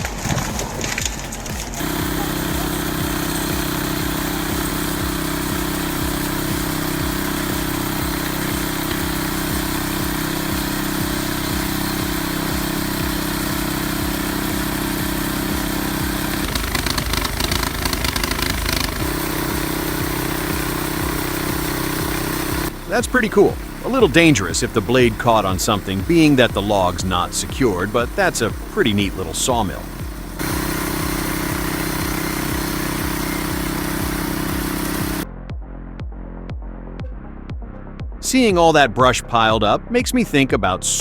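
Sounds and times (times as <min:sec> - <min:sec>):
small sawmill engine running: 0:00.0 - 0:35.3.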